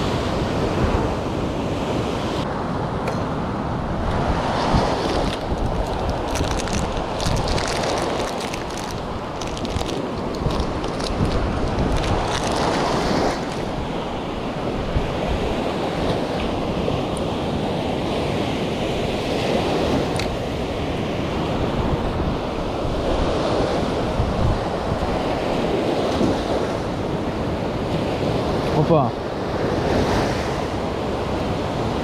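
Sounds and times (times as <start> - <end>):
surf breaking on a beach: 0.0 - 32.0
wind buffeting microphone: 0.0 - 32.0.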